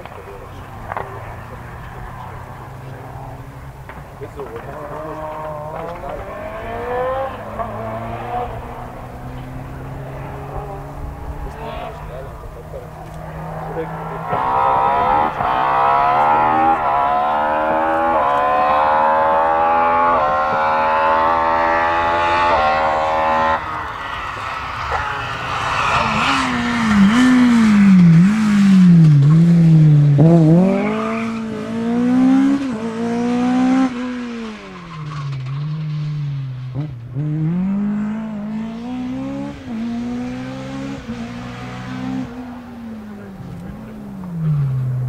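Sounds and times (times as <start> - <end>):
rally car engine revving: 0.0 - 45.0
tyre noise: 0.0 - 45.0.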